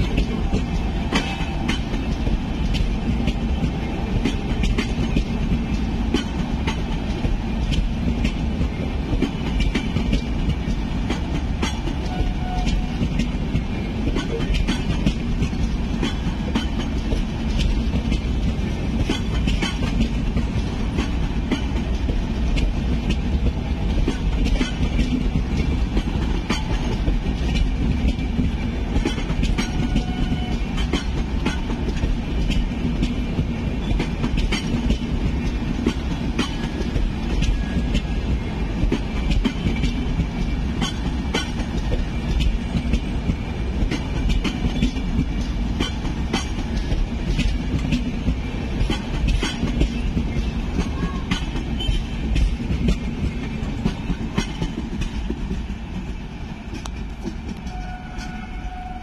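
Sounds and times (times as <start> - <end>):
wheels clicking over rail joints: 0.0 - 58.9
train wheels rumbling on rails: 0.0 - 59.0.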